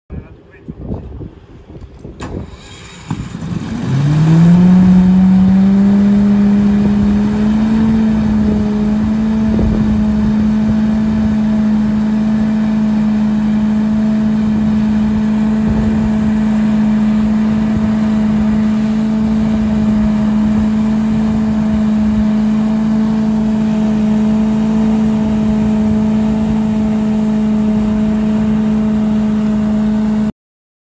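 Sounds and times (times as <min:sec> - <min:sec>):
leaf vacuum engine revving: 0:02.2 - 0:30.3.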